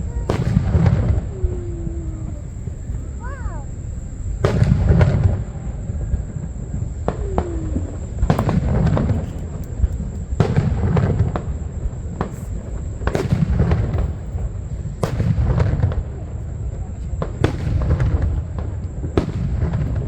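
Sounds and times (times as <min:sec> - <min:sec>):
fireworks cracks and booms: 0:00.0 - 0:20.0.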